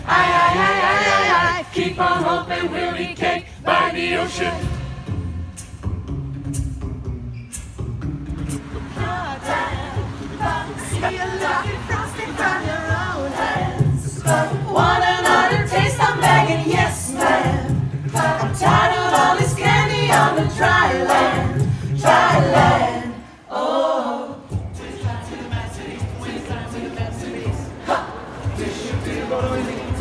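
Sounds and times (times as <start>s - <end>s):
a cappella group singing: 0.0s - 5.4s, 8.7s - 30.0s.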